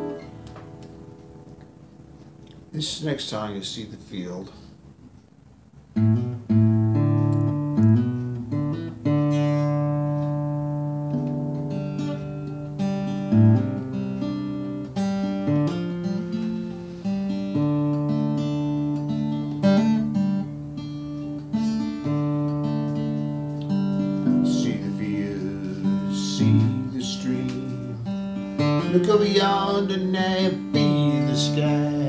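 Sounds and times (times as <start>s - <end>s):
acoustic guitar chords: 0.0s - 32.0s.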